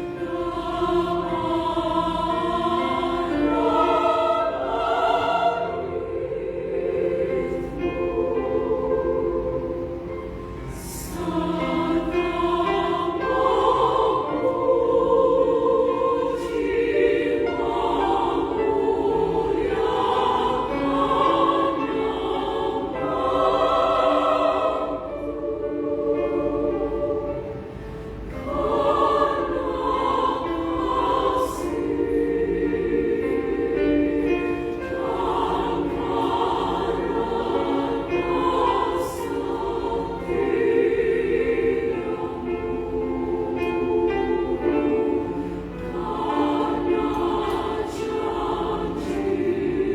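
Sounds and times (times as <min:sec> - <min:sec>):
women's choir singing: 0:00.0 - 0:49.9.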